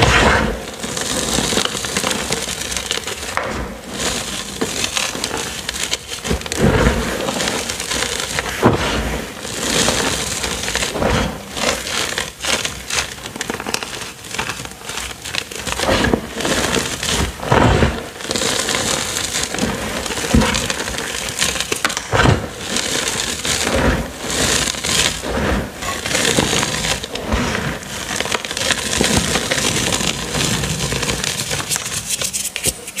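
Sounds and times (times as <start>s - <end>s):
hands crunching chalk: 0.0s - 33.0s.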